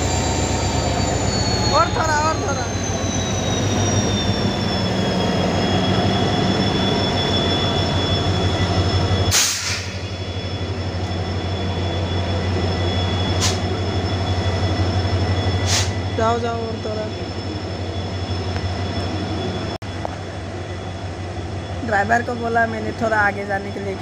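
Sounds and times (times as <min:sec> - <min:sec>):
diesel train hum: 0:00.0 - 0:24.0
high whine: 0:00.0 - 0:24.0.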